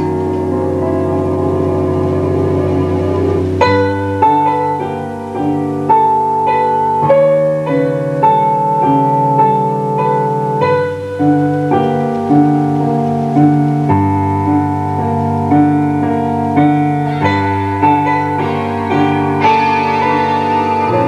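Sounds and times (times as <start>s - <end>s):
keyboard synthesizer chords: 0.0s - 21.0s.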